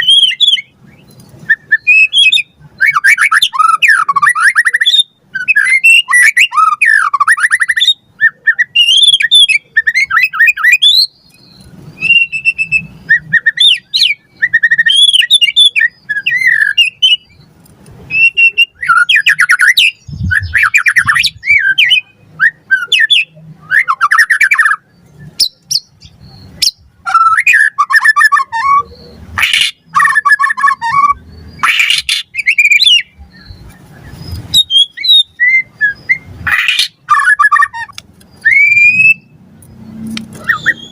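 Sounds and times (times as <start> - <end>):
bird singing whistles and trills: 0.0 - 17.5, 18.1 - 40.9.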